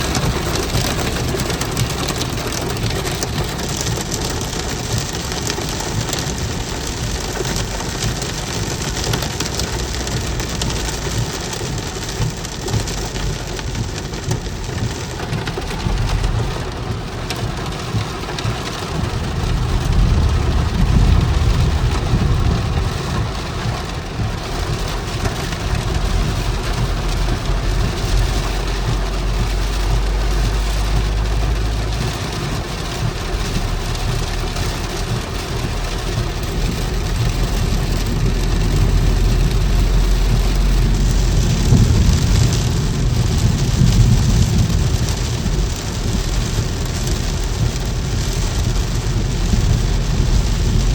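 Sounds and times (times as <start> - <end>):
car driving on wet road: 0.0 - 50.9
heavy rain falling: 0.0 - 50.9.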